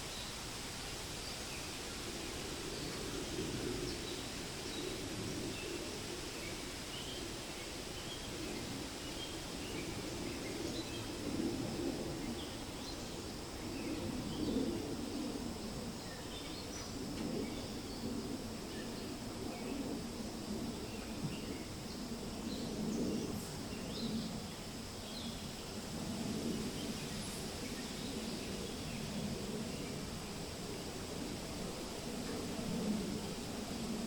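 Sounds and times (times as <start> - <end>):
wind rustling through leaves: 0.0 - 34.0.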